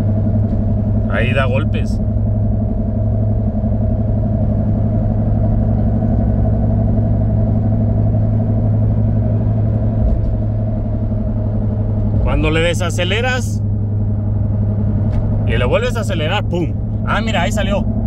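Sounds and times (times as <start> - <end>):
road noise: 0.0 - 18.0
truck engine drone: 0.0 - 18.0.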